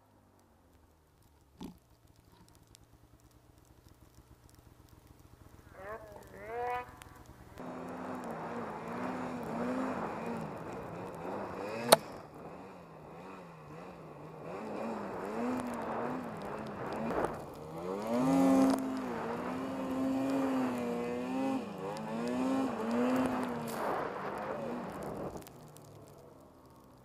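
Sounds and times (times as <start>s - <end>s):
snowmobile engine: 5.1s - 27.0s.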